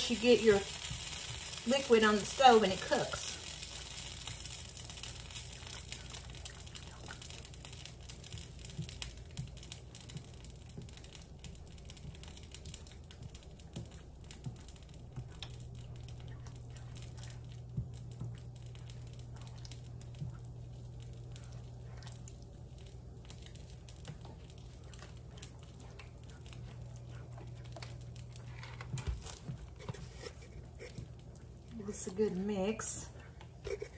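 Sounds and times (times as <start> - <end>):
low steady hum: 0.0 - 33.9
spatula stirring thick mixture: 0.0 - 33.9.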